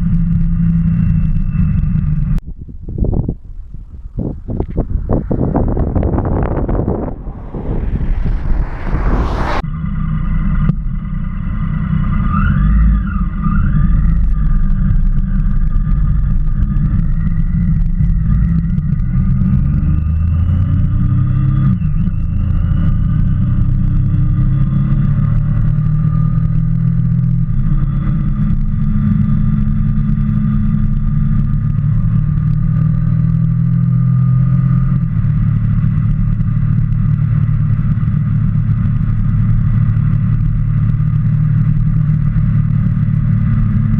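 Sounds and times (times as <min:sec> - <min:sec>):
motorcycle engine revving: 0:03.6 - 0:43.9.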